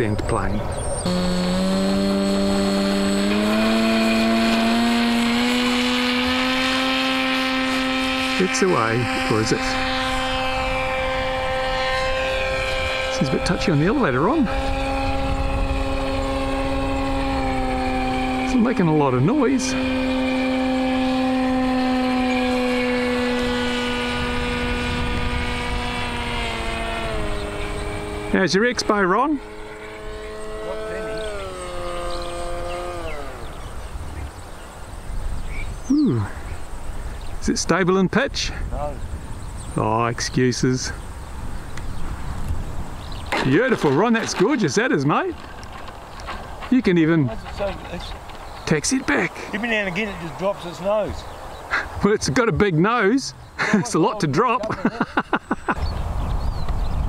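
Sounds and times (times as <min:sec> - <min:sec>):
model plane motor droning: 0:00.2 - 0:37.4, 0:40.8 - 0:52.3
wind rumble on microphone: 0:02.0 - 0:52.0, 0:54.7 - 0:57.0.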